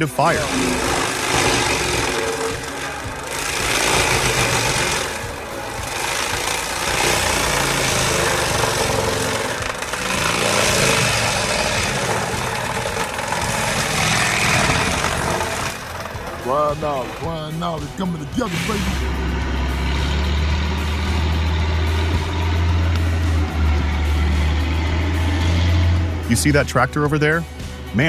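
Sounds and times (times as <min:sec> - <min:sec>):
heavy machinery running: 0:00.0 - 0:28.0.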